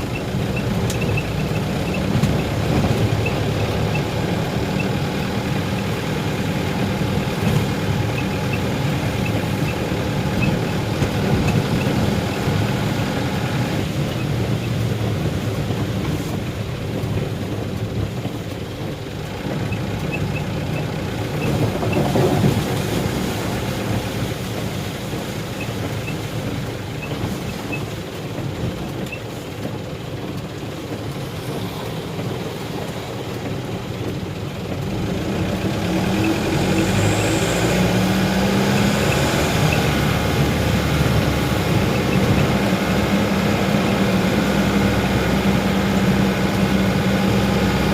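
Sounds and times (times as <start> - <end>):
vehicle engine while driving: 0.0 - 47.9.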